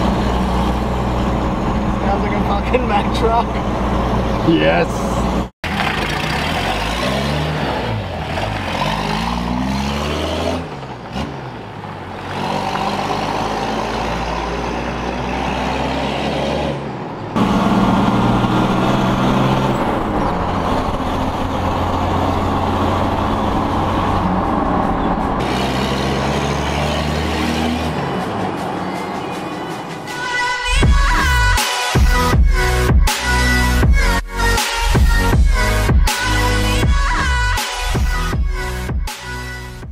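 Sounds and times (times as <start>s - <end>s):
loud diesel engine accelerating: 0.0s - 39.9s.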